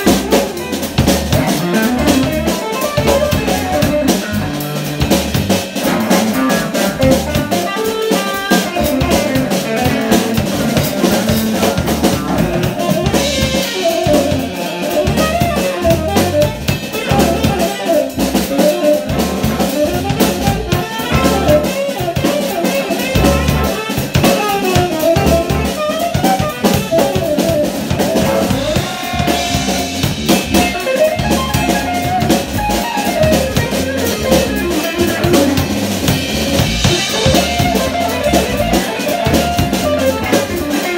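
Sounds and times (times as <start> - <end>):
drum kit beat: 0.0 - 40.9
electric bass: 0.0 - 40.9
electric guitar: 0.0 - 40.9
saxophone: 0.0 - 40.9.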